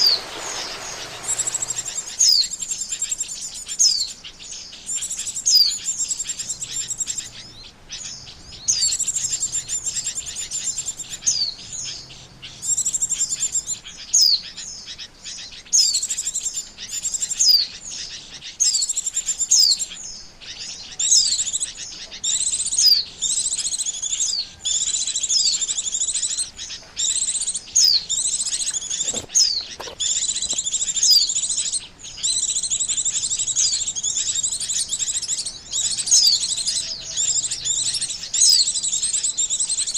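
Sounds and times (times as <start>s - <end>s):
bird chattering trills: 0.0s - 39.9s.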